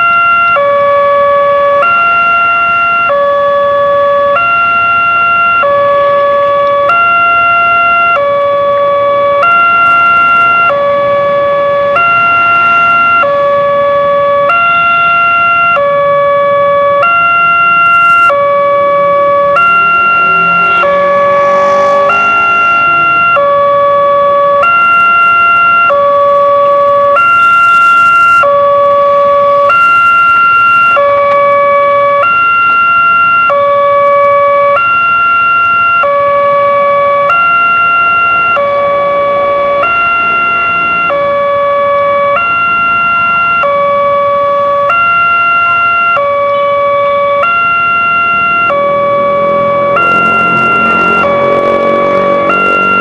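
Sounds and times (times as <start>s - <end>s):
level crossing two-tone alarm: 0.0s - 53.0s.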